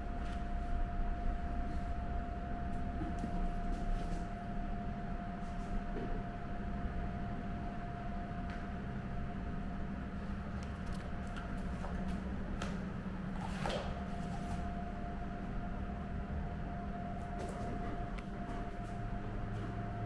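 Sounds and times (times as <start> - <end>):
steady mechanical hum with whine: 0.0 - 20.0.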